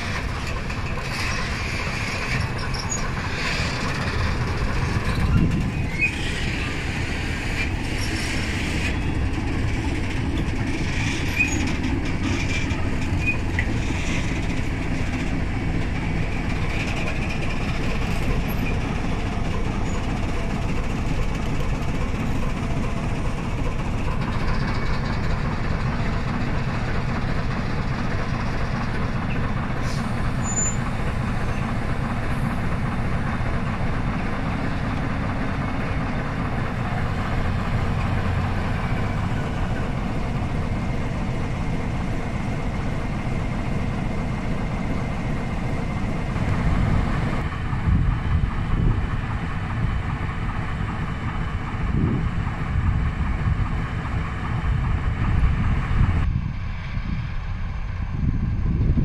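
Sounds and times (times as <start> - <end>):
diesel locomotive engine: 0.0 - 59.0
train wheels clacking and squeaking: 0.0 - 59.0.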